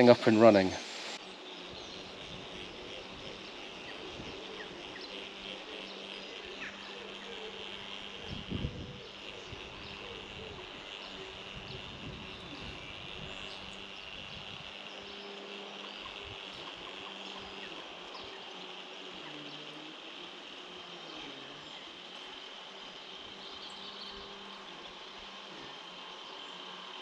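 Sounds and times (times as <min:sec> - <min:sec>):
flying insect buzzing: 0:00.0 - 0:27.0
high insect hiss: 0:00.0 - 0:27.0.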